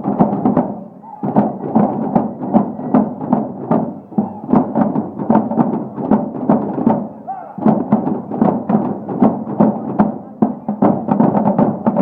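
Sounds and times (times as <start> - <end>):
drums beating a march rhythm: 0.0 - 12.0.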